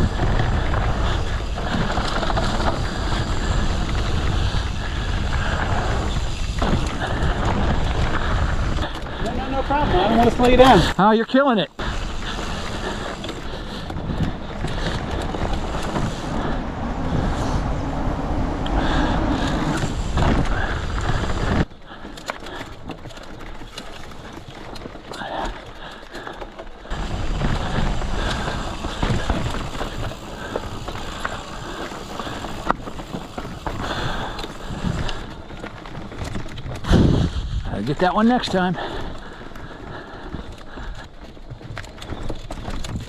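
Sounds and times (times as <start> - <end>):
wind rush on microphone: 0.0 - 11.0, 11.8 - 21.7, 26.8 - 43.0
bike tyres rumbling and rattling: 0.0 - 43.0.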